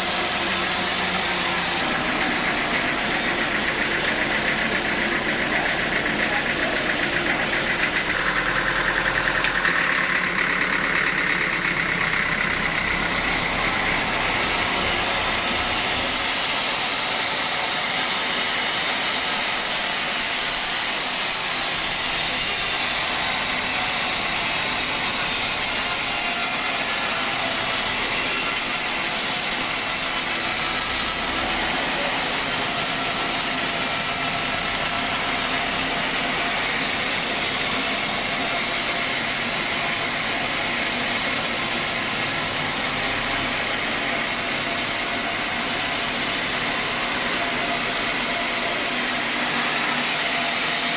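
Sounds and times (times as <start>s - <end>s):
sawmill engine and saw running: 0.0s - 50.9s.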